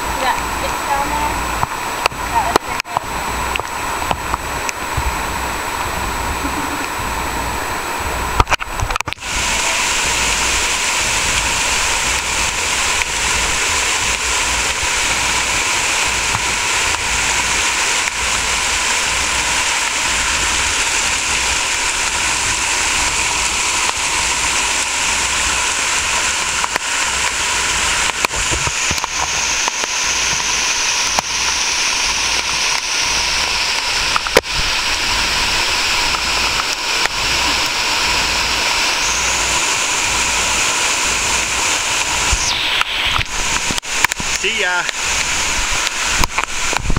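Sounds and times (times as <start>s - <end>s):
rushing stream water: 0.0s - 46.9s.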